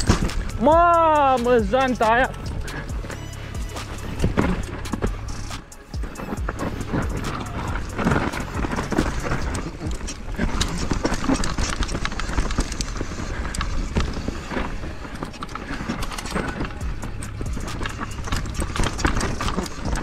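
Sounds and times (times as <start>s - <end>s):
bike clattering over rocks: 0.0s - 2.8s, 3.8s - 20.0s.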